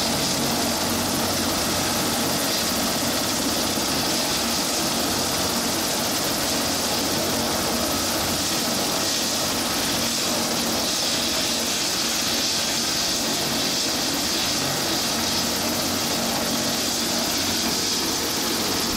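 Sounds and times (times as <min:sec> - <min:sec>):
helicopter engines and rotor whine: 0:00.0 - 0:18.9.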